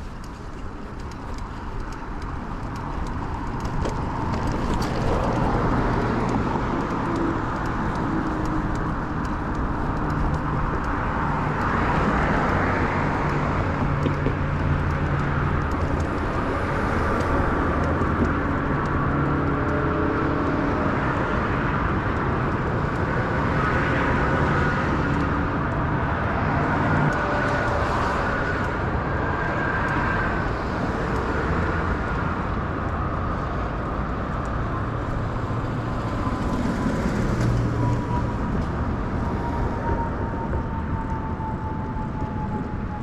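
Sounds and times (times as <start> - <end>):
road traffic noise: 0.0 - 43.0.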